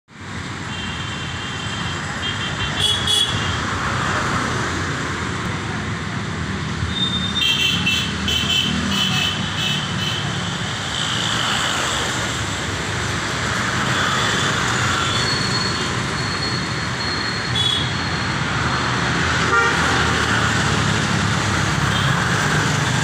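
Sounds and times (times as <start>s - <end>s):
traffic rumble: 0.1s - 23.0s.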